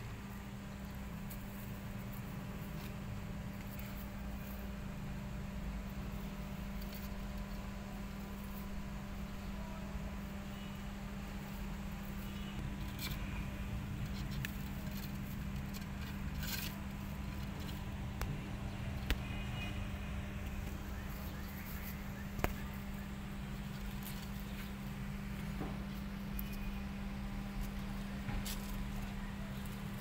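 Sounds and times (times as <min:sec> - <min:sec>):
steady low hum: 0:00.0 - 0:30.0
kittens scuffling: 0:00.4 - 0:30.0.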